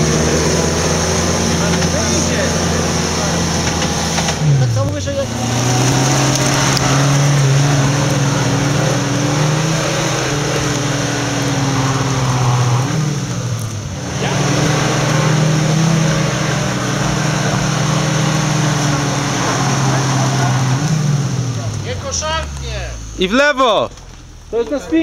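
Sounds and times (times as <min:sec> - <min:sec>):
off-road vehicle engine straining: 0:00.0 - 0:25.0.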